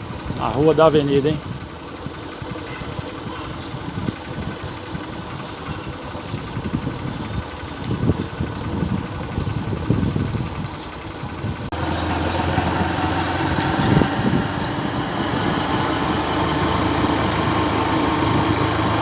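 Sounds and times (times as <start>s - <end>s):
road and wind noise: 0.0s - 19.0s
vehicle engine running: 0.0s - 19.0s.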